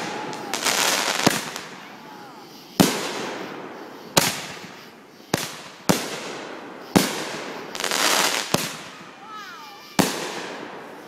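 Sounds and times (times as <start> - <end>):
fireworks bangs echoing: 0.0 - 11.0
fireworks crackling: 0.0 - 11.0.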